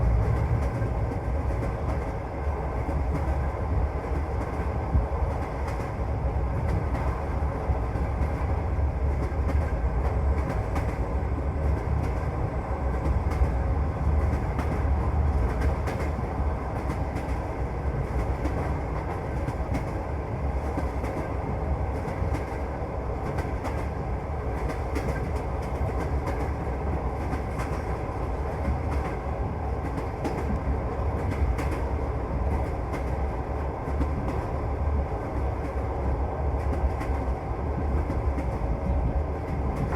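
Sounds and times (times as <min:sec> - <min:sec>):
train interior rumble: 0:00.0 - 0:39.9.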